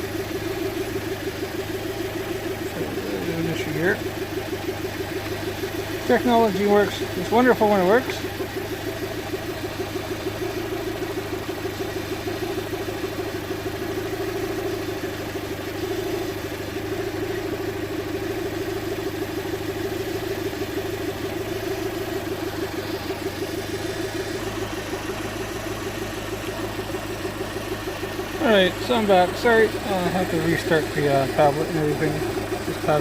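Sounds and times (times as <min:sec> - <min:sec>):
car engine idling with misfire: 0:00.0 - 0:33.0.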